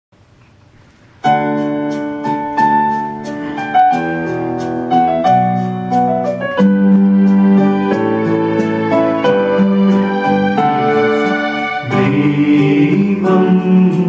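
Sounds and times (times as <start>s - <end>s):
electronic keyboard chords: 1.2s - 14.0s.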